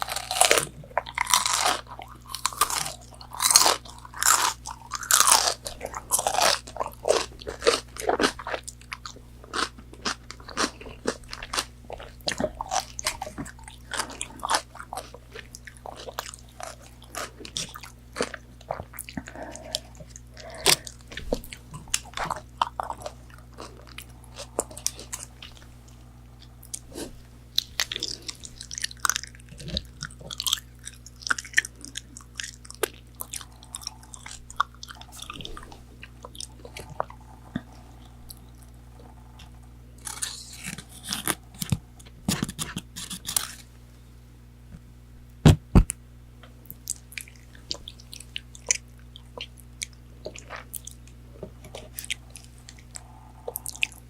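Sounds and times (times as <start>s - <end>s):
chewing and crunching food: 0.0s - 43.7s, 46.6s - 54.0s.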